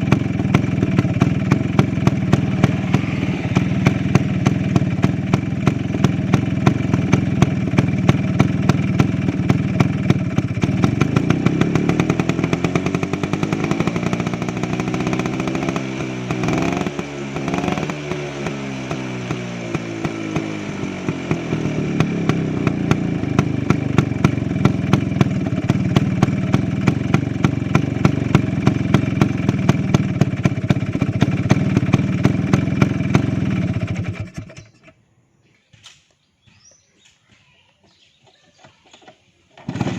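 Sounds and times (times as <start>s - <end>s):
two-stroke scooter engine revving: 0.0s - 34.9s, 39.6s - 39.9s.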